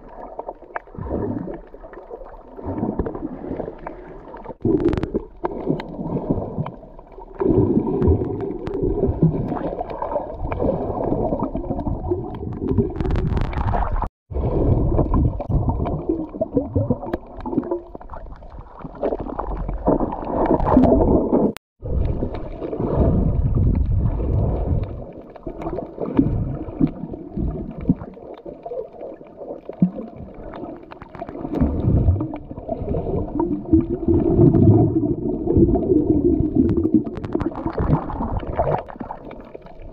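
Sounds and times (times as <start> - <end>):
underwater rumbling and gurgling: 0.0 - 39.9.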